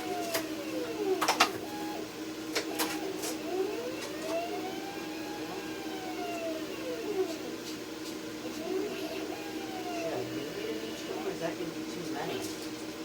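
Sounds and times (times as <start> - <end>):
cutting machine motor whine: 0.0 - 13.0.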